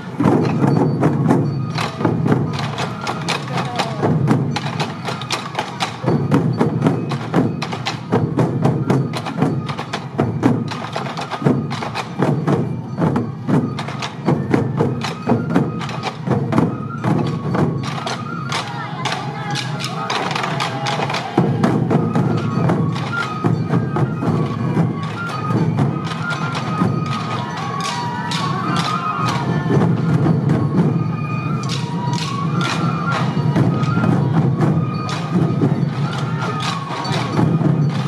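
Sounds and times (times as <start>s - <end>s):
taiko drums beaten in fast rhythm: 0.0s - 38.0s.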